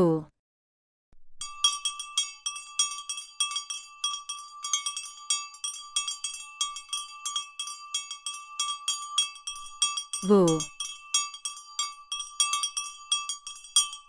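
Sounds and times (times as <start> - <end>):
small metal bells jingling: 1.4 - 14.0.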